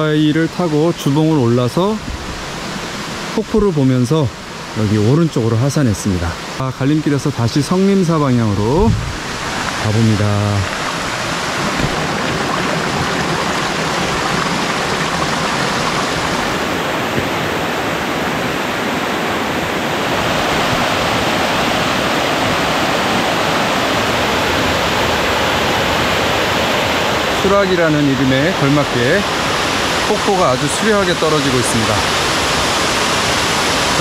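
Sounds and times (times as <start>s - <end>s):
stream and waterfall rushing: 0.0s - 34.0s.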